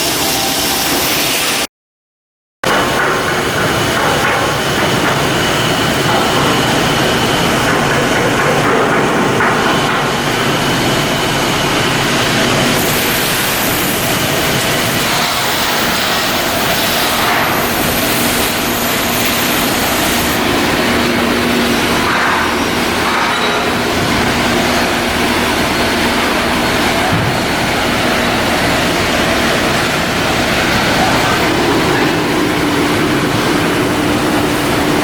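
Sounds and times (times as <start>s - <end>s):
shipyard mechanical noise: 0.0s - 1.7s, 2.6s - 35.0s.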